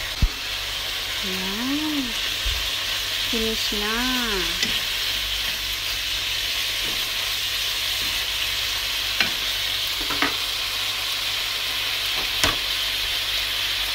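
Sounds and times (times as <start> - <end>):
meat and vegetables sizzling in pan: 0.0 - 13.9.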